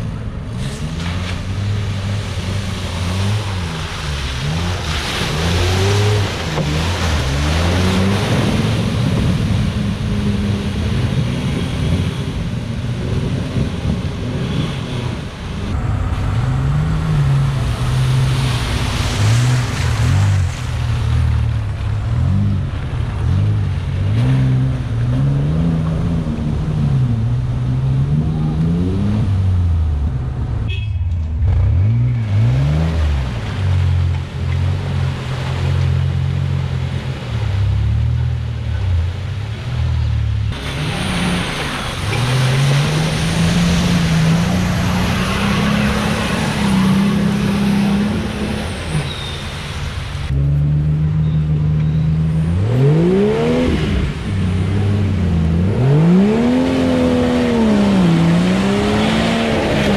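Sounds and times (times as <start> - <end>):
mud and water splashing: 0.0 - 59.9
off-road engines revving: 0.0 - 59.9.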